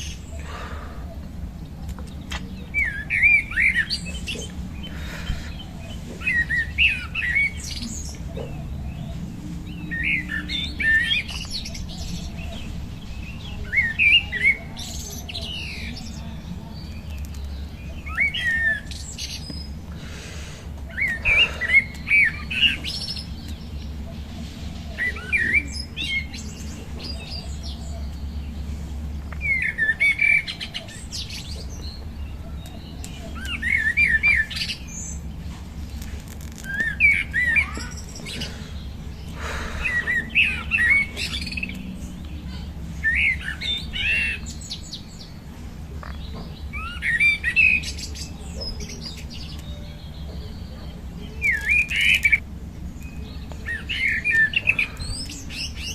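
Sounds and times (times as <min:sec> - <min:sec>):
birds chirping: 0:00.0 - 0:55.9
steady low hum: 0:00.0 - 0:55.9.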